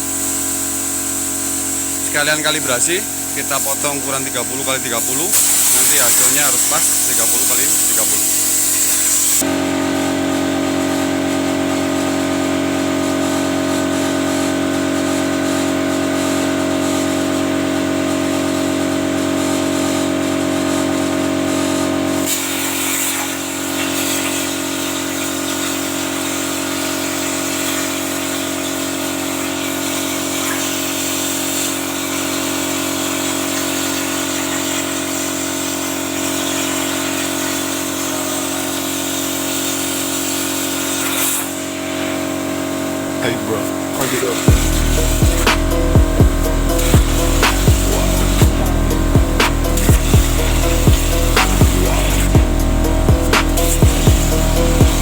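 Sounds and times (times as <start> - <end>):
plasma cutter hiss and whine: 0.0 - 9.5, 18.6 - 55.0.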